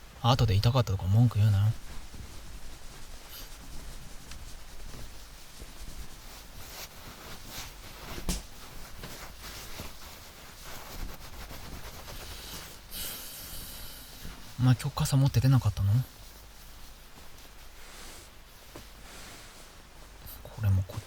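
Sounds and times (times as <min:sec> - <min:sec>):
towel rubbing wet hair: 0:00.4 - 0:21.0.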